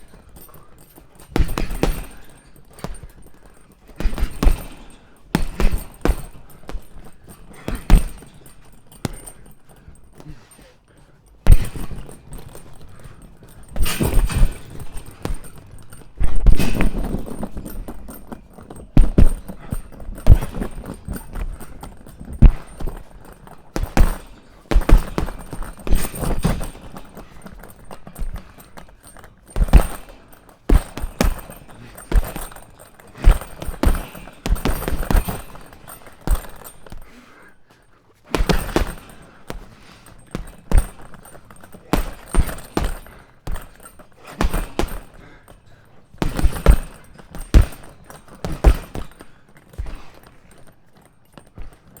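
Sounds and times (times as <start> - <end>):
punches on punching bag: 0.0 - 10.5, 11.4 - 37.3, 38.3 - 50.7.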